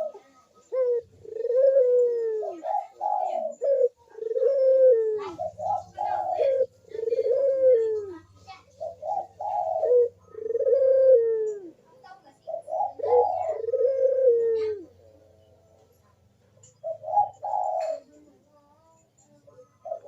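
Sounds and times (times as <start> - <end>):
pouter dove cooing: 0.0 - 15.9, 16.7 - 20.0.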